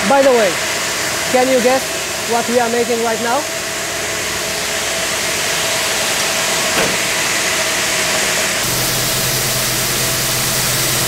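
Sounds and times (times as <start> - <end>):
factory machinery running: 0.0 - 11.0.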